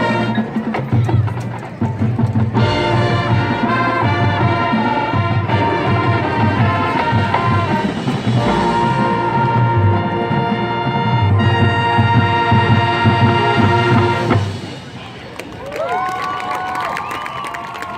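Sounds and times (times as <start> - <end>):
marching band brass: 0.0 - 15.5
drums beating: 0.0 - 16.1.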